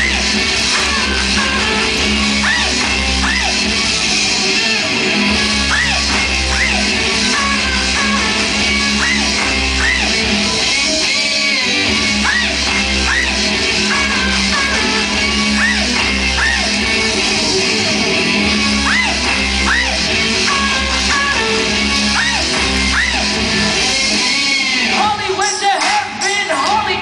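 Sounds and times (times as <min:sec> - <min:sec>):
loud live rock music: 0:00.0 - 0:27.0.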